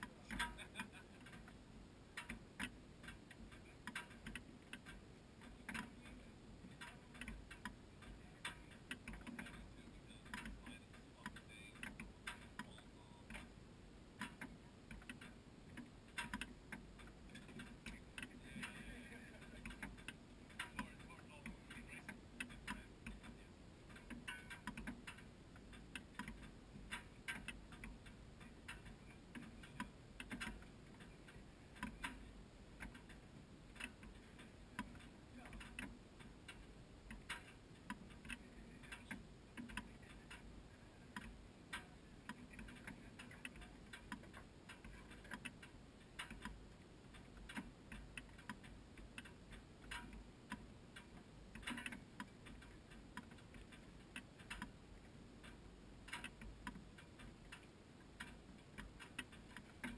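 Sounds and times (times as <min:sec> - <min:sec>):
faint ticking clicks: 0:00.0 - 0:59.9.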